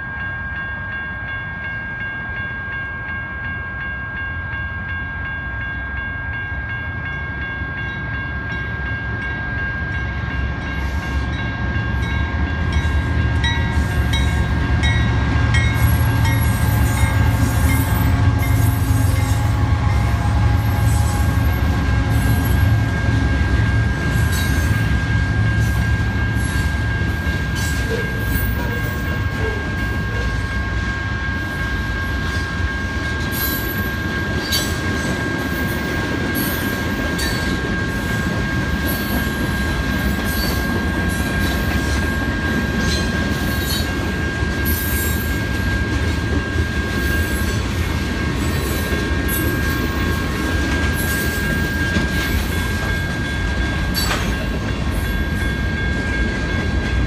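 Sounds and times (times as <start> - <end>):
crossing bells ringing: 0.0 - 57.0
diesel locomotive engine rumbling: 0.0 - 57.0
train cars clattering: 8.1 - 57.0.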